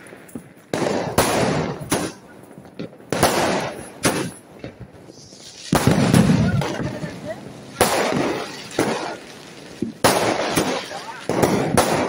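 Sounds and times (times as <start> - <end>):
fireworks bangs with hiss: 0.0 - 12.0.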